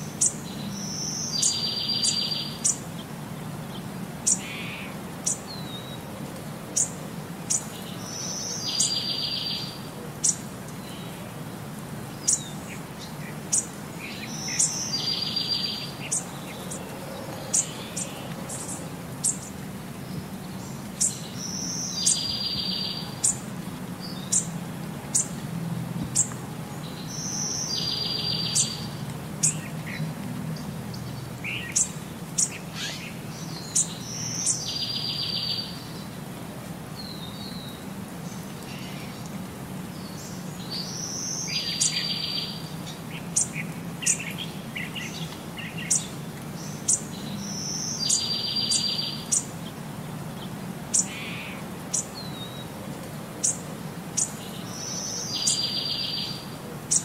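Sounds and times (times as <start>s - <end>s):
birds chirping: 0.0s - 6.1s, 6.7s - 11.4s, 12.0s - 25.4s, 26.1s - 36.3s, 37.0s - 52.8s, 53.4s - 57.0s.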